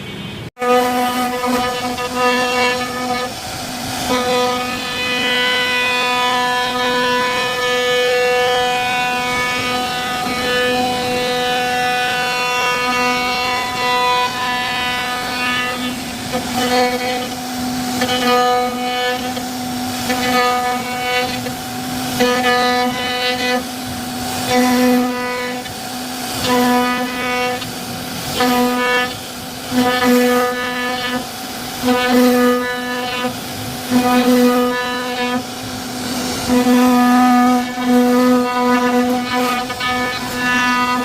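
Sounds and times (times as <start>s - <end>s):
router spindle high whine: 0.0s - 41.0s
bit cutting wood hiss: 0.6s - 41.0s.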